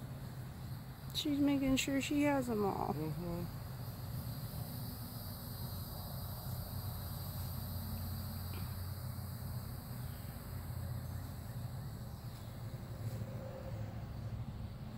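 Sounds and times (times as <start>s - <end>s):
insects droning: 0.0s - 14.9s.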